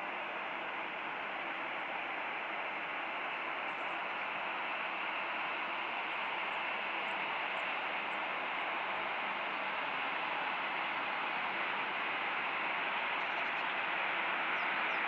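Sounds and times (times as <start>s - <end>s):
distant jet engines hissing: 0.0s - 15.0s.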